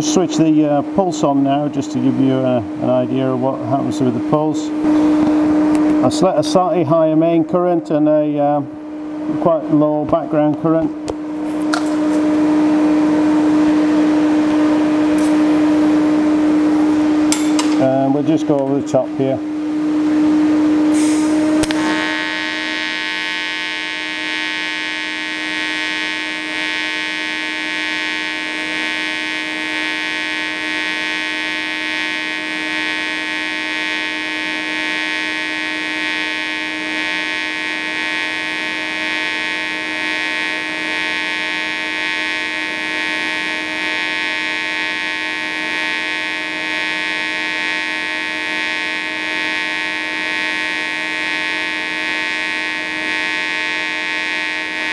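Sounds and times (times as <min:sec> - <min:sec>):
welding arc buzz: 0:00.0 - 0:54.9.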